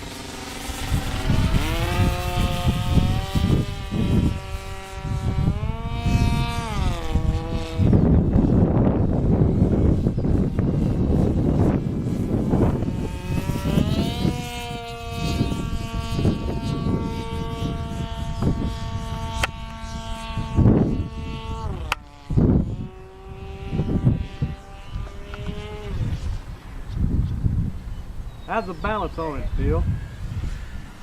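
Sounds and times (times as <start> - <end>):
model airplane engine buzzing: 0.0 - 31.0
wind gusts on microphone: 0.0 - 31.0.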